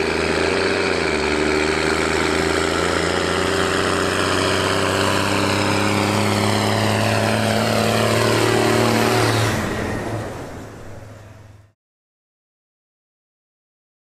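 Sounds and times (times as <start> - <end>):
tractor diesel engine under load: 0.0 - 11.8.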